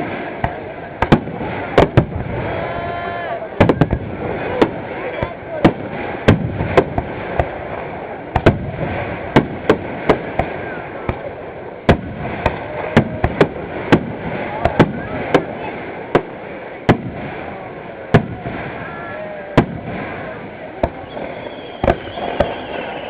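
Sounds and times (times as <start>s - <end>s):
fireworks bursting: 0.0s - 23.0s
steady background noise: 0.0s - 23.0s.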